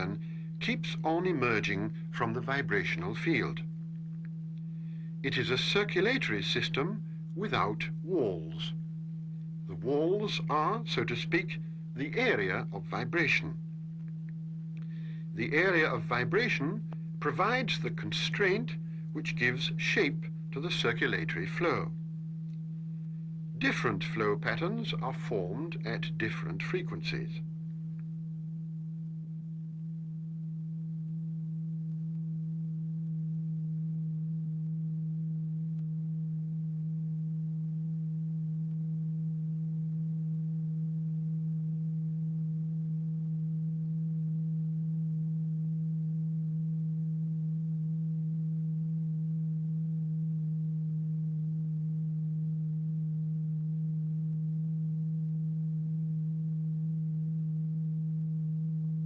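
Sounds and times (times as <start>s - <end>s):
steady low pure tone: 0.0s - 59.0s.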